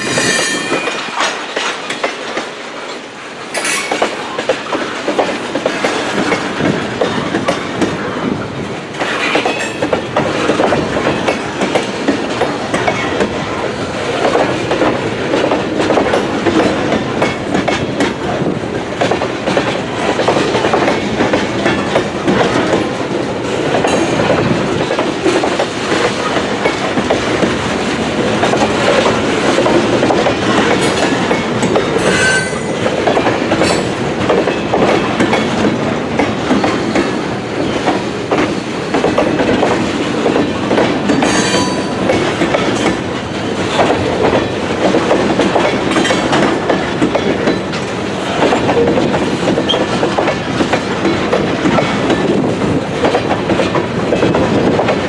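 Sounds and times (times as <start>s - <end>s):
freight train rumble and rattle: 0.0s - 55.0s
wheels clacking over rail joints: 0.0s - 55.0s.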